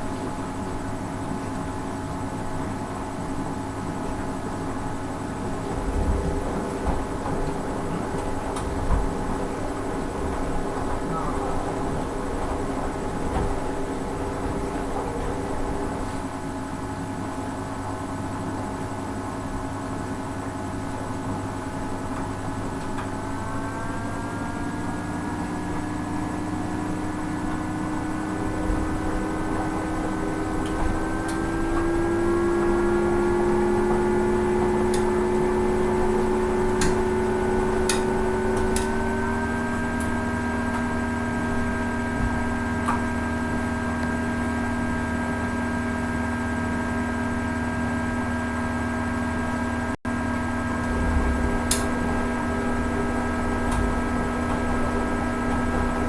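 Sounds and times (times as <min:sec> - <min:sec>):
washing machine motor whine: 0:00.0 - 0:56.0.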